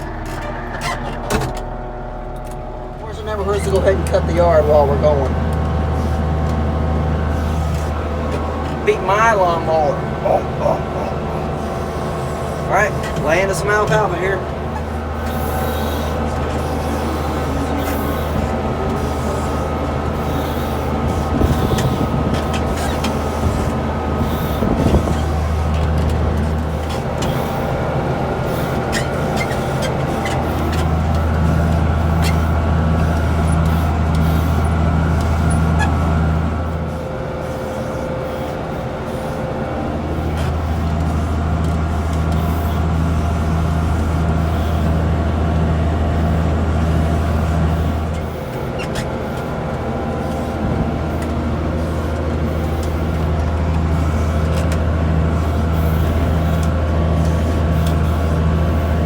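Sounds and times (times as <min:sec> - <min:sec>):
mower whirring: 0:00.0 - 0:59.0
tractor engine under load: 0:00.0 - 0:59.0.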